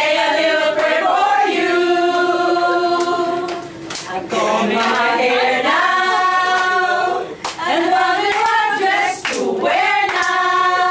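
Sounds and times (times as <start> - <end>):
group singing in unison: 0.0 - 10.9.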